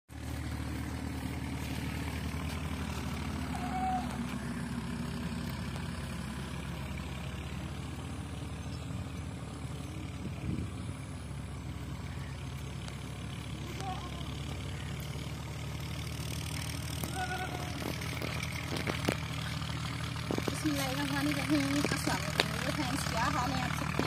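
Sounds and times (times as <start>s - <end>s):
engine running with low throb: 0.1s - 24.0s.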